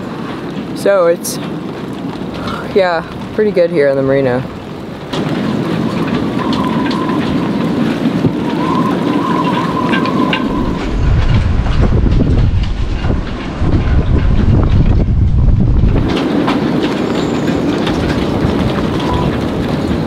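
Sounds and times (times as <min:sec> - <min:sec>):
gusting wind on microphone: 0:00.0 - 0:20.0.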